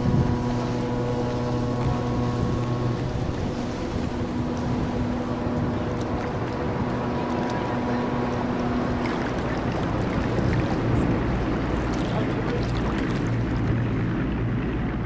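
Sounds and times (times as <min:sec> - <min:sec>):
ferry engine drone: 0:00.0 - 0:15.0
steady hum tone: 0:00.0 - 0:15.0
water noise: 0:00.0 - 0:15.0.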